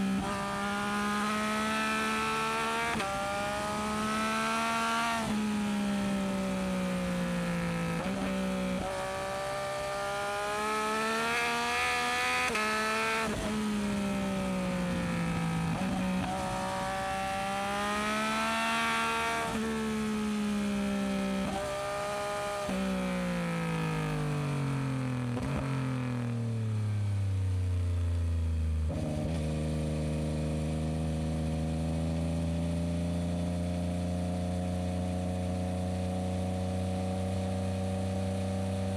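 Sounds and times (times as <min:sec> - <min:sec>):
motorcycle engine revving: 0:00.0 - 0:26.3, 0:28.6 - 0:38.9.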